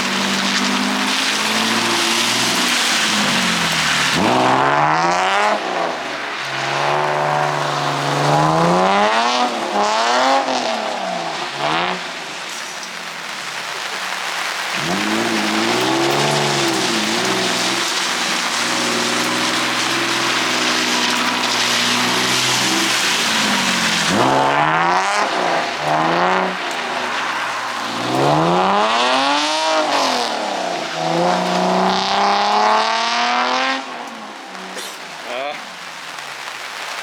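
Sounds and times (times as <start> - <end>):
car engine revving: 0.0 - 12.7, 14.3 - 34.8.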